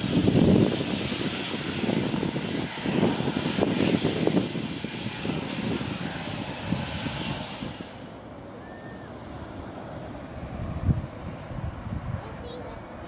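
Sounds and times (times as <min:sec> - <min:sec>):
wind buffeting microphone: 0:00.0 - 0:08.1, 0:09.4 - 0:13.0
aircraft engines rushing: 0:00.0 - 0:13.0.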